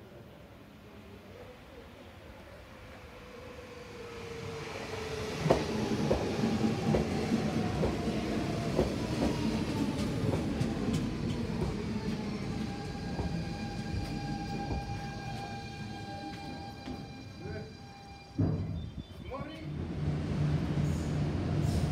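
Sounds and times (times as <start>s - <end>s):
train whine: 0.8s - 21.9s
electric train passing: 2.1s - 21.9s.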